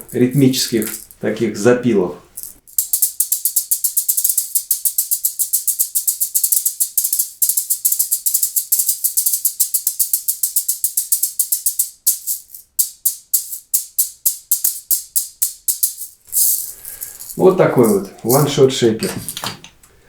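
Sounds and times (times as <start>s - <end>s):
shakers rattling: 0.0s - 1.2s, 2.3s - 19.6s.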